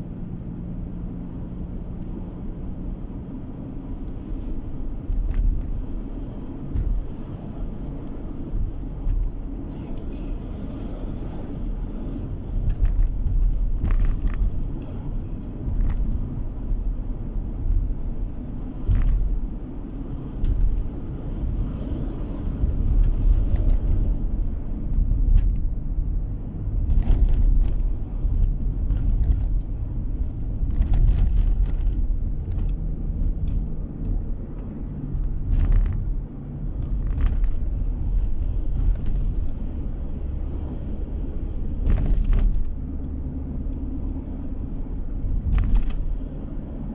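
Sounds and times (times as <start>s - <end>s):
car engine and tyre rumble: 0.0s - 46.9s
small rattles and clicks: 4.0s - 10.7s, 12.5s - 21.7s, 22.4s - 46.9s.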